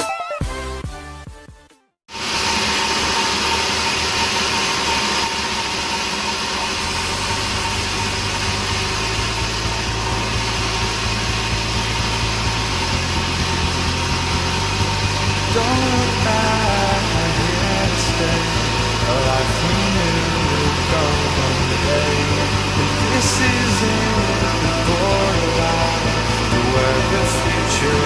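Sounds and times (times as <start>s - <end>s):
sawmill saw noise: 2.1s - 28.0s
low engine hum: 3.2s - 28.0s.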